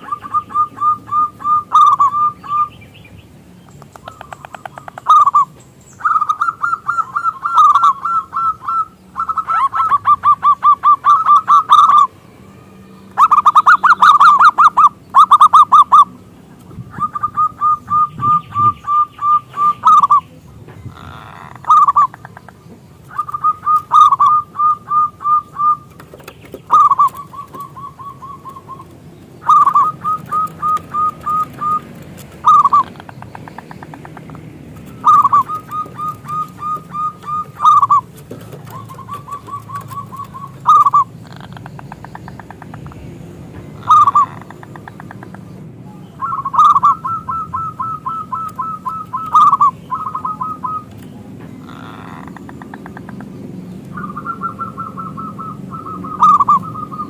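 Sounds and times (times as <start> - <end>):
dove cooing: 0.0 - 2.8, 3.8 - 12.1, 13.1 - 43.0, 43.7 - 57.0
low background hum: 0.0 - 57.0.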